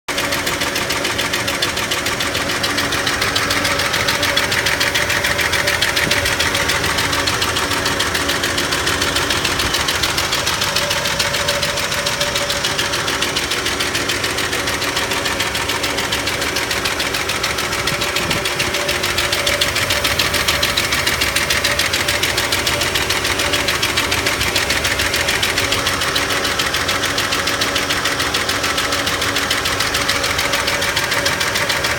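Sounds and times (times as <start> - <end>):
engine running: 0.1 - 31.9
fast even engine ticking: 0.1 - 31.9.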